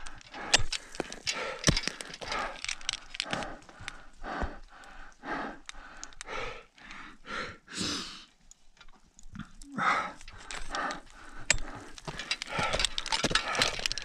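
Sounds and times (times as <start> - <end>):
climbing gear clicks and knocks: 0.0 - 7.1, 8.4 - 14.0
heavy rapid breathing: 0.0 - 8.3, 9.7 - 14.0.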